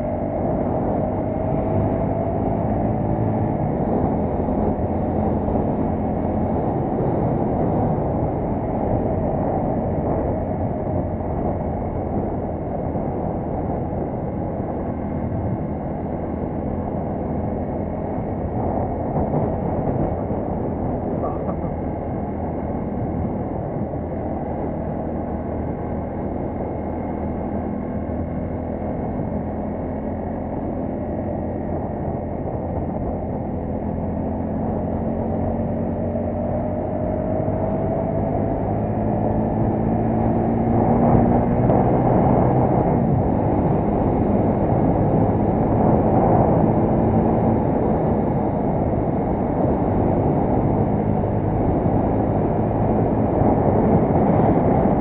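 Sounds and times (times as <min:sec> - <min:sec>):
motorcycle engine accelerating: 0:00.0 - 0:55.0
wind rush: 0:00.0 - 0:55.0.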